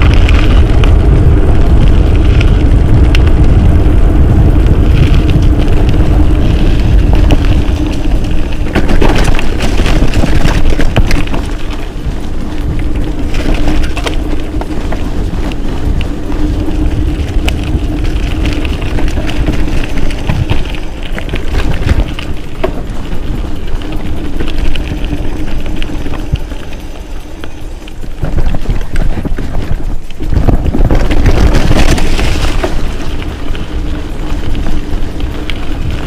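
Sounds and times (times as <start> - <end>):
bike rattling over bumps: 0.0 - 36.0
tyres rumbling over dirt: 0.0 - 36.0
wind buffeting microphone: 0.0 - 36.0.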